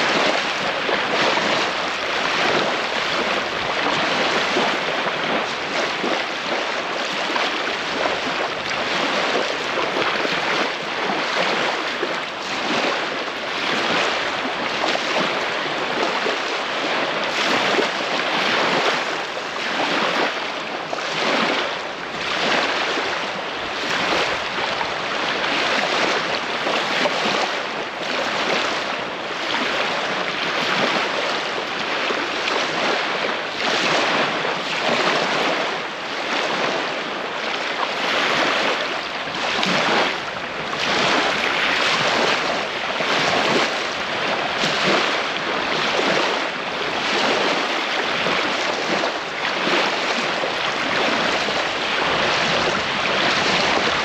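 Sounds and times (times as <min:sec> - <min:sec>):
small waves lapping on beach: 0:00.0 - 0:54.0.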